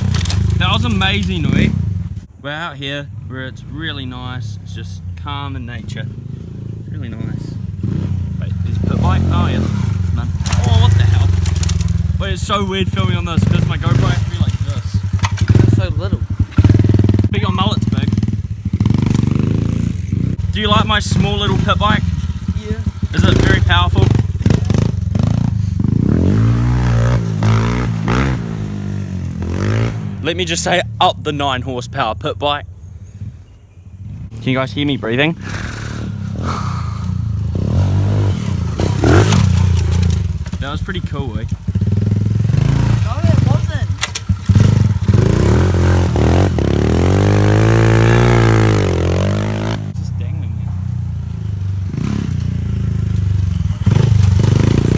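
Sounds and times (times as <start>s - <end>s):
small motorcycle engine revving: 0.0s - 2.3s, 3.6s - 31.7s, 34.0s - 54.9s.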